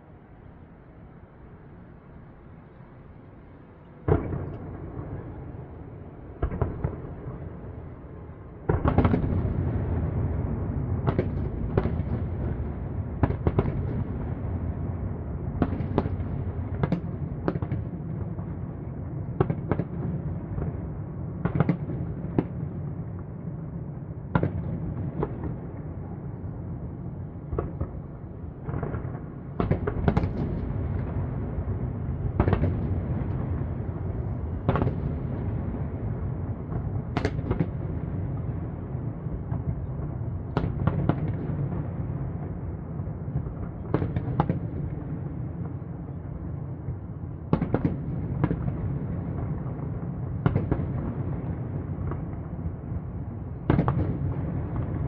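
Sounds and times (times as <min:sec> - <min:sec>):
fireworks bursting with sharp bangs: 0:04.0 - 0:05.5, 0:06.4 - 0:07.8, 0:08.6 - 0:23.4, 0:24.2 - 0:26.2, 0:27.4 - 0:46.0, 0:46.8 - 0:55.0.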